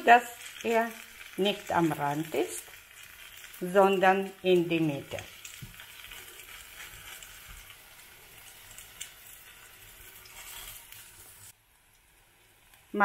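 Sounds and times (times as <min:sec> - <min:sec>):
hot oil sizzling in a pan: 0:00.0 - 0:13.0.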